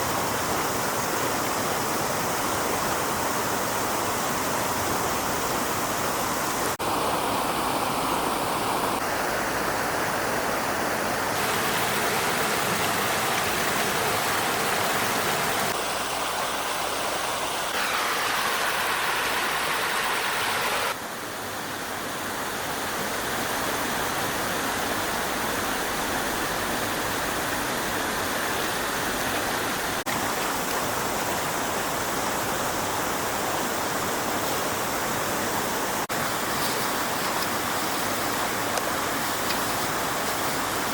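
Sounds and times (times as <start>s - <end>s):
water rushing in a stream: 0.0s - 40.9s.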